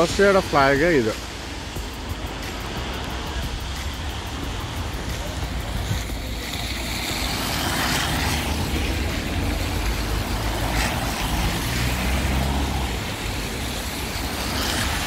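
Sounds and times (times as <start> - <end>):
road traffic rumble: 0.0 - 15.0
traffic hiss: 0.0 - 15.0.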